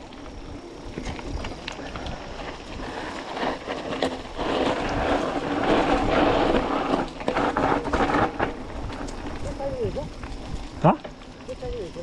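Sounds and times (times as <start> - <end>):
bike tyres on dirt trail: 0.0 - 12.0.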